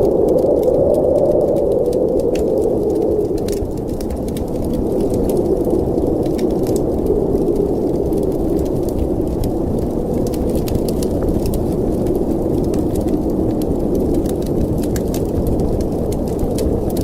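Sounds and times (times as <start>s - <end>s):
snowstorm wind rushing: 0.0s - 17.0s
wood fire crackling and popping: 0.0s - 17.0s.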